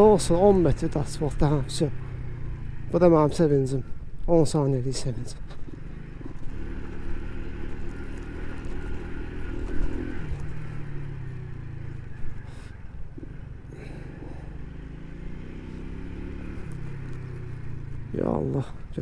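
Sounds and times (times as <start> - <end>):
small motorcycle engine running: 0.0 - 4.0, 5.2 - 18.7.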